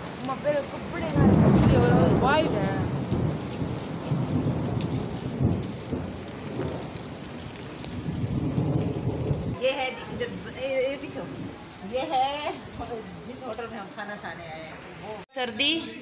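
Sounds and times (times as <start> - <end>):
heavy rain pouring: 0.0 - 15.3.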